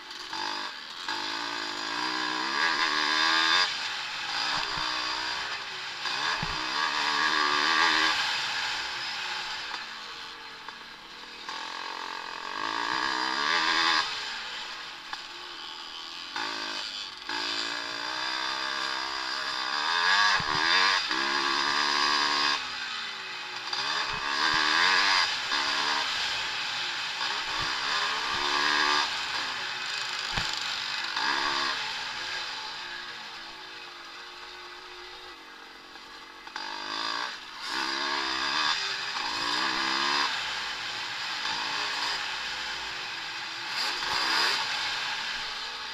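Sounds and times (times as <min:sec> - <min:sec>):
motorcycles revving while racing: 0:00.0 - 0:45.9.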